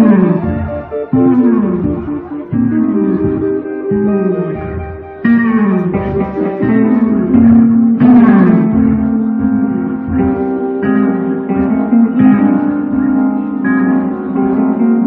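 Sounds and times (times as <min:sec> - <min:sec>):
electric guitar held notes: 0:00.0 - 0:15.0.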